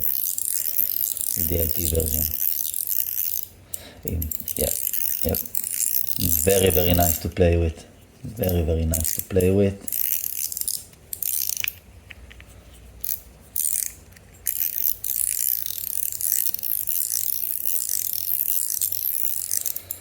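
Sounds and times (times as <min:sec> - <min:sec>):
metal fidget toy clicking: 0:00.0 - 0:07.6, 0:08.4 - 0:11.8, 0:13.0 - 0:20.0.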